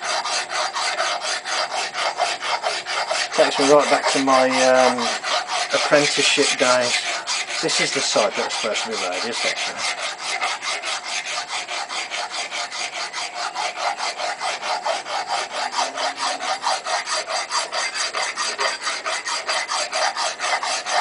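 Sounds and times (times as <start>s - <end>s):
hand file rasping on steel: 0.0s - 21.0s.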